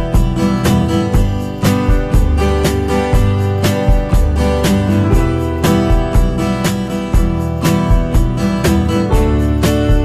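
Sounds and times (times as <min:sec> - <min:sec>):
bass line: 0:00.0 - 0:10.0
strummed acoustic guitar: 0:00.0 - 0:10.0.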